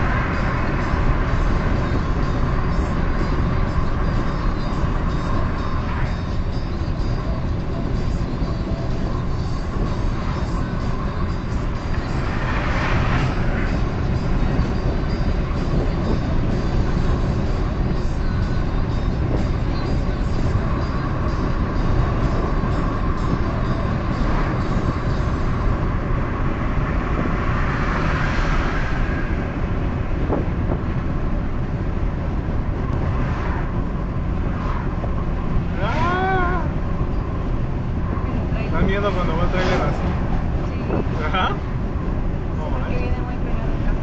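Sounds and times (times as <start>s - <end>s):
car road and engine noise: 0.0s - 44.0s.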